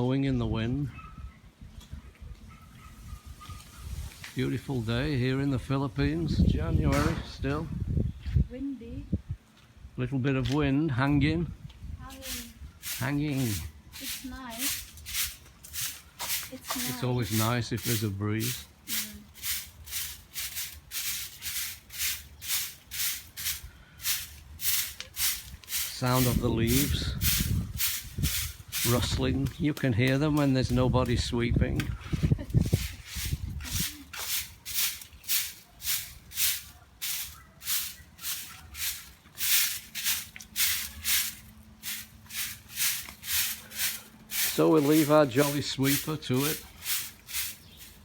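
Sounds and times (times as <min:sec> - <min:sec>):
broom sweeping ground: 0:02.9 - 0:07.4, 0:12.0 - 0:48.0.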